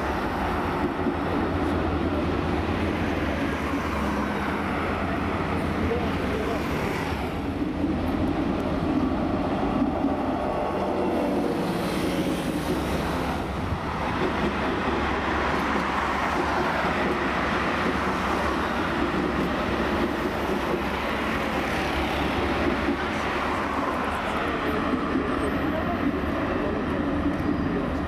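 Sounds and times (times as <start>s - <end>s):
road traffic: 0.0s - 28.0s
tram running along track: 0.0s - 28.0s.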